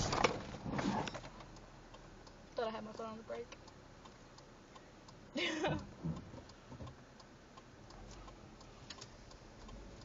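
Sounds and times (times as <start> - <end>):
car turn signal clicking: 1.3 - 10.0.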